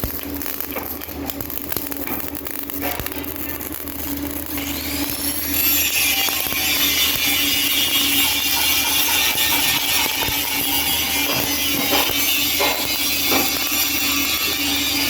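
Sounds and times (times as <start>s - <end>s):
steady hum: 0.0s - 15.0s
welding arc crackling: 0.0s - 15.0s.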